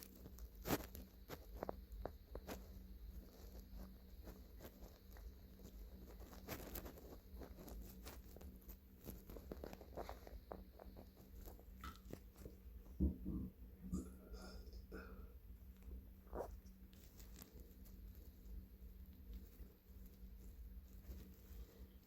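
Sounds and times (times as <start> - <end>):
faint clicks and crackles: 0.0 - 13.0, 15.6 - 22.0
steady low hum: 0.0 - 22.0.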